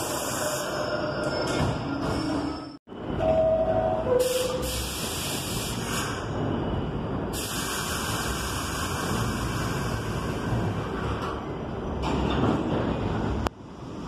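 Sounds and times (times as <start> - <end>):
moving train: 0.0 - 14.0.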